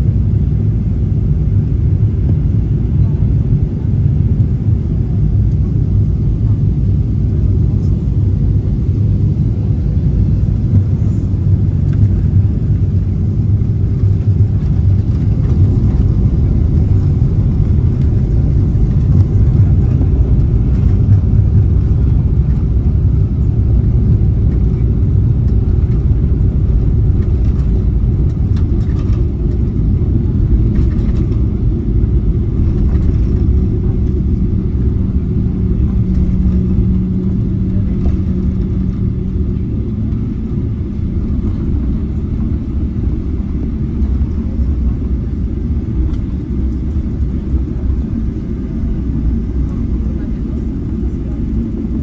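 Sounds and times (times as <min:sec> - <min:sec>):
jet engines rumbling: 0:00.0 - 0:52.0
steady hum: 0:03.8 - 0:52.0.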